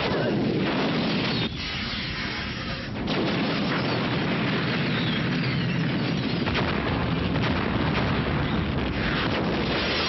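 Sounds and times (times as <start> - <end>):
explosions and fire: 0.0 - 10.0.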